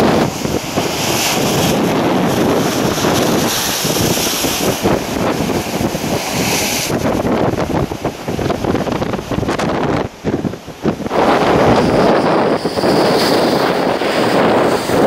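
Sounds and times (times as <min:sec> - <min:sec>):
heavy surf: 0:00.0 - 0:15.0
wind buffeting microphone: 0:00.0 - 0:15.0.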